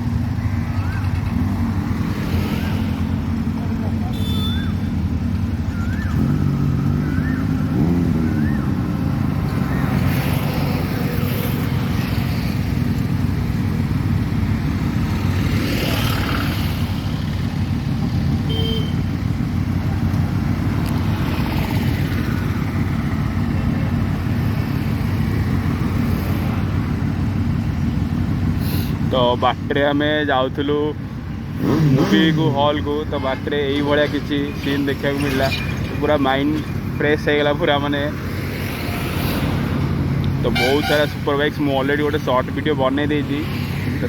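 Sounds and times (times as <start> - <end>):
road and wind noise: 0.0 - 44.0
traffic passing: 0.0 - 44.0
vehicle engine rumble: 0.0 - 44.0.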